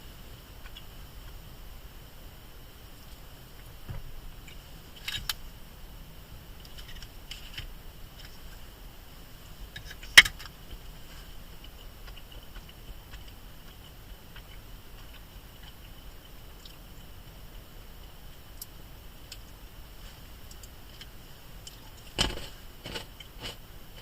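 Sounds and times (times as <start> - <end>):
faint high hum: 0.0 - 24.0.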